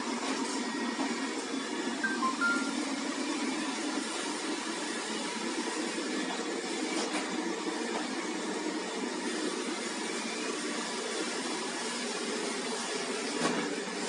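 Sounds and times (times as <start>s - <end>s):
robot vacuum whirring hum: 0.0s - 14.0s.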